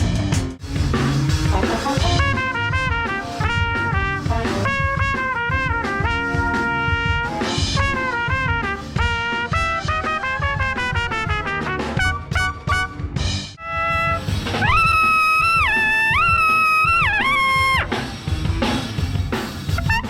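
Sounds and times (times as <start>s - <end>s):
drum kit: 0.0s - 20.0s
wind instrument melody: 1.5s - 17.9s, 19.8s - 20.0s.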